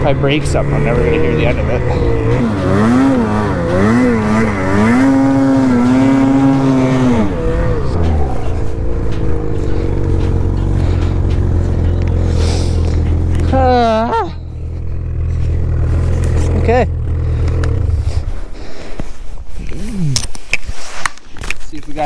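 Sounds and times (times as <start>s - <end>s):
snowmobile engine idling: 0.0s - 19.6s
snowmobile engine revving: 0.0s - 20.3s.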